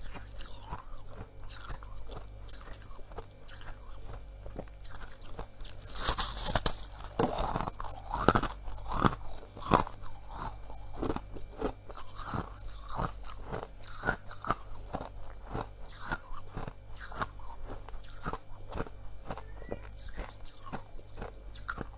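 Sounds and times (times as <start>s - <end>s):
person chewing crunchy frost: 0.0s - 21.9s.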